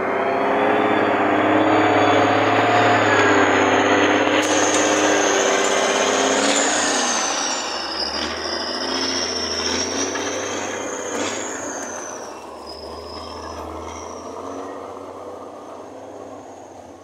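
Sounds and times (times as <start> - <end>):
high wavering whine: 0.0 - 17.0
log truck engine pulling away: 0.0 - 17.0
tyres on muddy dirt road: 0.0 - 17.0.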